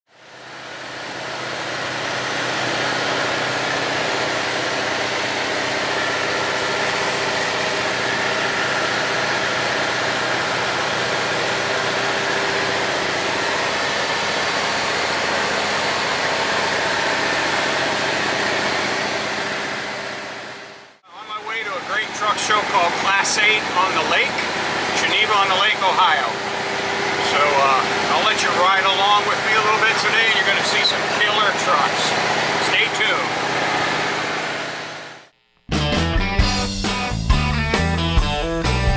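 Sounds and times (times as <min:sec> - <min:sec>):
truck diesel engine running: 0:00.1 - 0:38.9.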